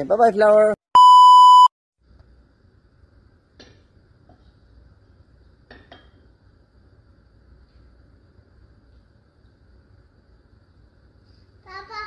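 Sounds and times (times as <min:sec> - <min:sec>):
faint room hum: 0:02.0 - 0:12.0.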